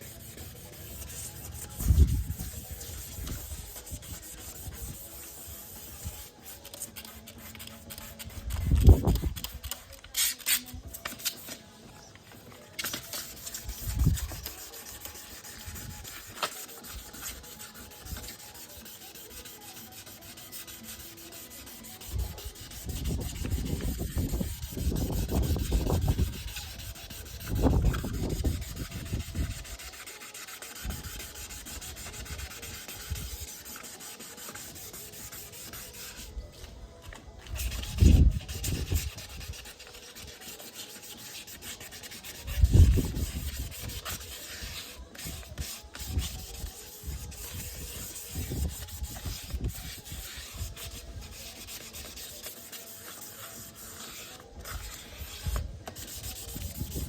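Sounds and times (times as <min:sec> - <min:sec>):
wet sanding rubbing strokes: 0:00.0 - 0:11.7, 0:12.4 - 0:57.0.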